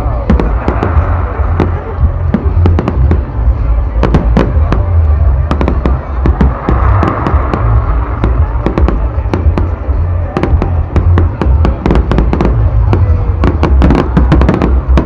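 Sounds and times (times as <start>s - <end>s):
fireworks bangs and cracks: 0.0s - 15.0s
low rumble: 0.0s - 15.0s.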